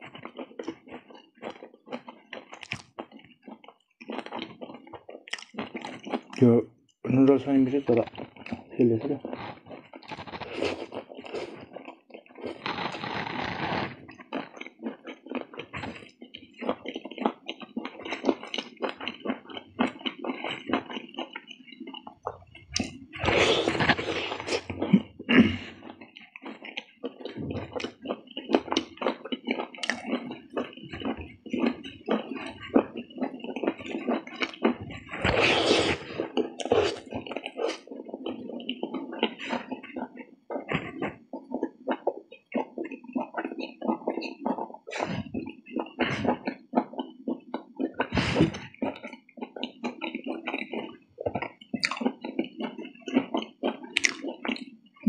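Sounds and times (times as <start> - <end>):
person chewing and smacking: 0.0 - 55.0.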